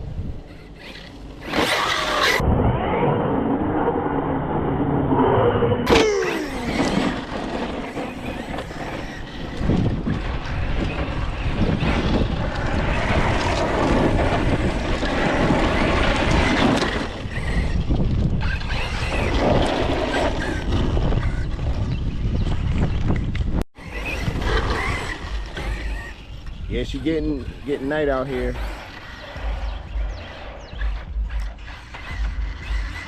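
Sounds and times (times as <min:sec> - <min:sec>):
wind buffeting microphone: 0:00.0 - 0:05.2, 0:05.8 - 0:33.0
rc truck motor whine: 0:00.2 - 0:04.2, 0:05.9 - 0:33.0.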